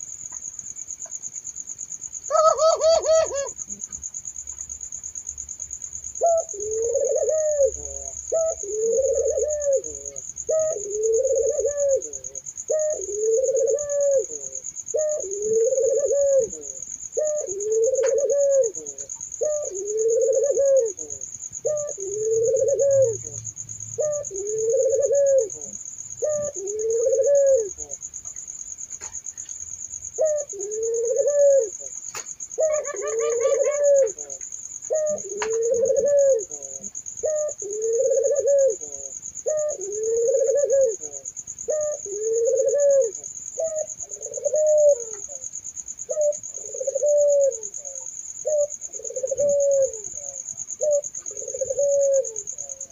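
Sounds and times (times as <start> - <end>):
doves cooing: 2.2 - 3.9, 6.1 - 28.2, 30.0 - 52.9.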